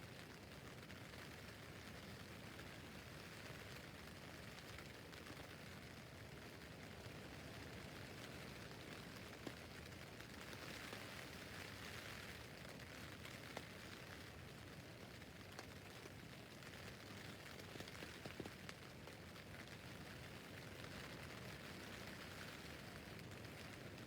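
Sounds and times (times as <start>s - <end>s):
rain on a tent roof: 0.0s - 24.0s.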